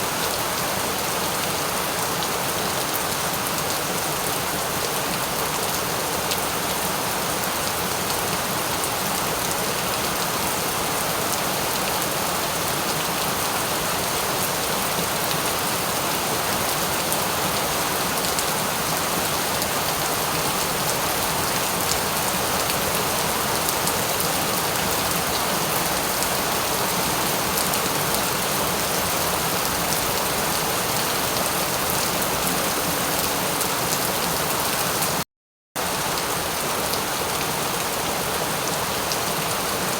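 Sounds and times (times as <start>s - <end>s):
rain pattering on a surface: 0.1s - 35.2s.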